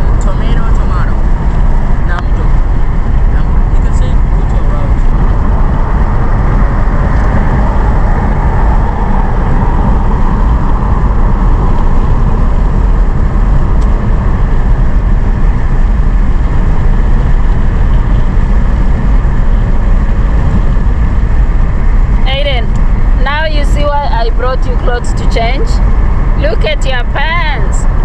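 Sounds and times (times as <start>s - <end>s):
car road noise: 0.0s - 28.0s.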